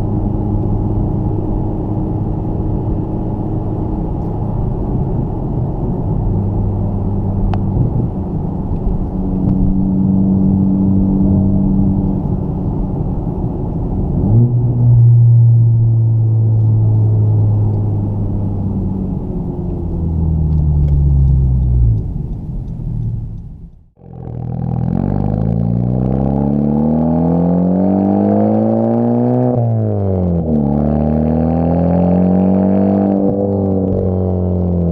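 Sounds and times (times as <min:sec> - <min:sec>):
car exhaust drone: 0:00.0 - 0:34.9.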